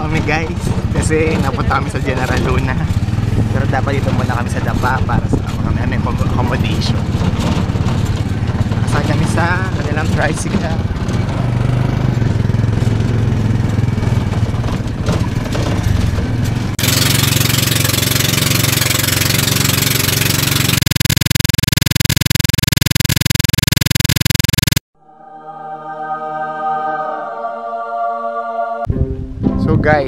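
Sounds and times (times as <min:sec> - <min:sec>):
motorboat engine pulsing: 0:00.0 - 0:24.8
motorcycle engine running: 0:00.0 - 0:24.8.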